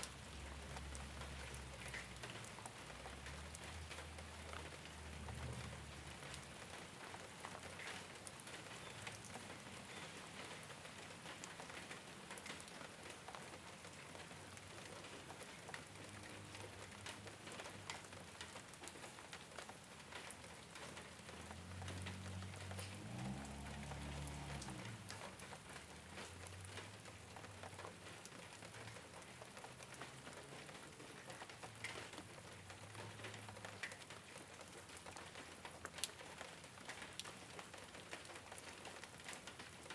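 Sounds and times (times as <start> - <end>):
rain patter on a rooftop: 0.0 - 39.9.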